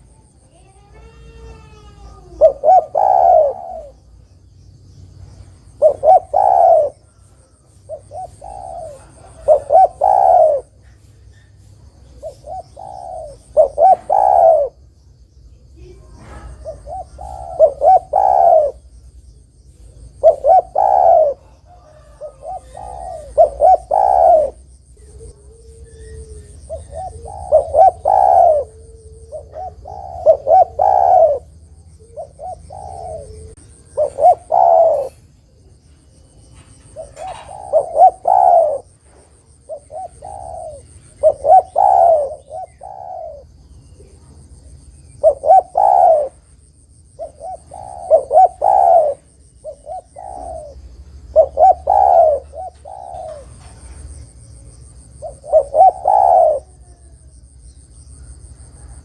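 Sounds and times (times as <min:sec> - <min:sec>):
dove cooing: 0:00.0 - 0:04.3, 0:05.6 - 0:15.0, 0:15.8 - 0:57.5.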